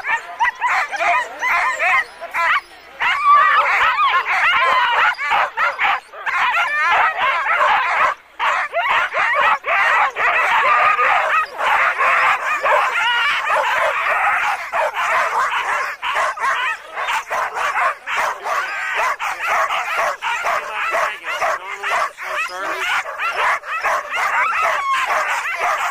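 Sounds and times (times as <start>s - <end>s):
sled dogs barking and yipping: 0.0s - 25.9s.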